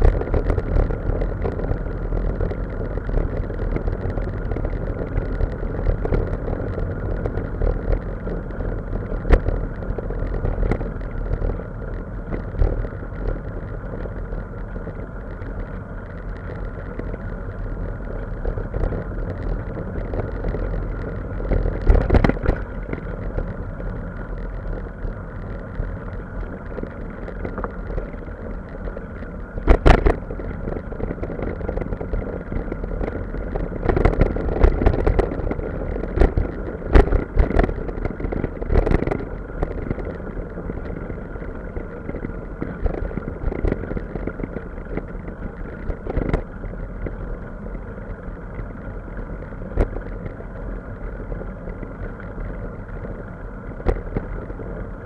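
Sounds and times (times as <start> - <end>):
low vehicle rumble: 0.0 - 55.0.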